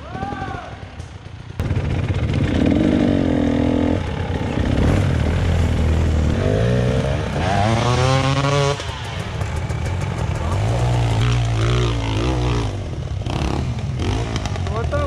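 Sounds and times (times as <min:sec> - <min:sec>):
dirt bike engine revving: 0:00.1 - 0:15.0.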